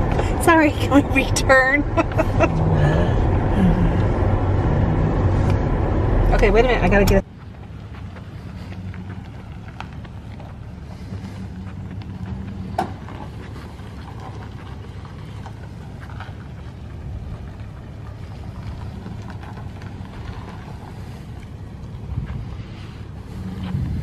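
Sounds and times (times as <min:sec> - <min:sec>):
pickup truck engine running: 0:00.0 - 0:24.0.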